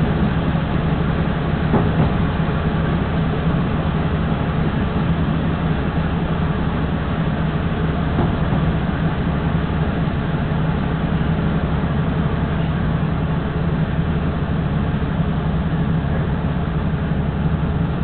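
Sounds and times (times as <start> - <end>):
diesel railcar engine drone: 0.0 - 18.0.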